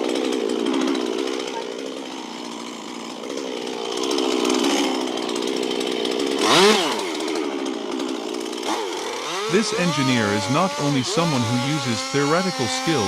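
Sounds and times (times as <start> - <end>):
chainsaw sawing tree trunk: 0.0 - 13.0.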